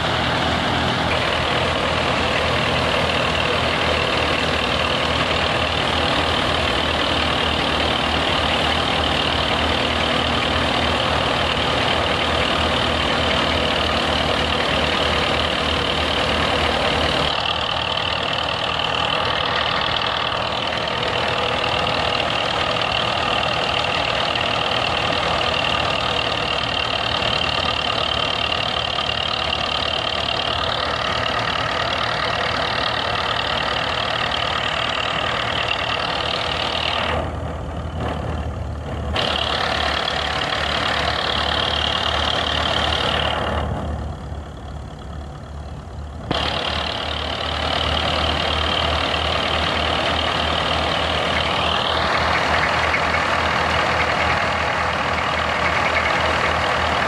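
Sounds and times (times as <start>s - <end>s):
thresher mechanical noise: 0.0s - 44.0s, 46.3s - 57.0s
tractor diesel engine running: 0.0s - 57.0s.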